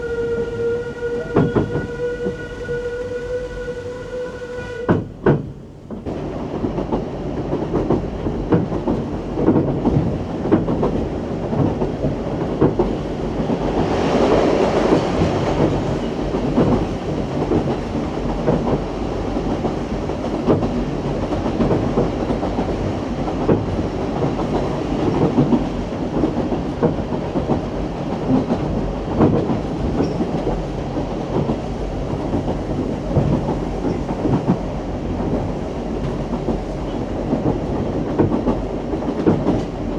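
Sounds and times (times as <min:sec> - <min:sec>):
train carriages rumbling on track: 0:00.0 - 0:39.9.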